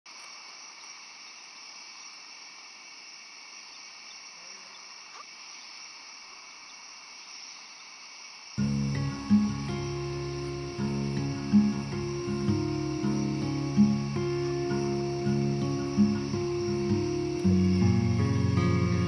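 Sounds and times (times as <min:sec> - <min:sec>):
faint steady hiss: 0:00.1 - 0:19.0.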